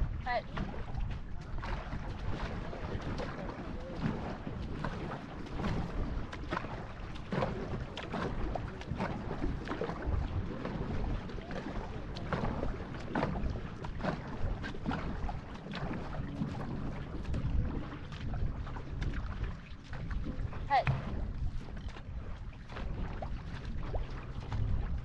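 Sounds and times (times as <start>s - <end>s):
paddle strokes in water: 0.0s - 25.0s
water rushing along hull: 0.0s - 25.0s
wind buffeting microphone: 0.0s - 25.0s.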